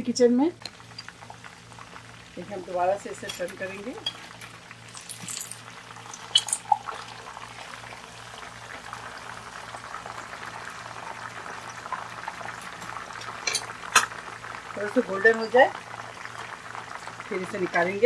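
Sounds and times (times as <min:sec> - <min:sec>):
chicken sizzling in hot oil: 0:00.2 - 0:18.0.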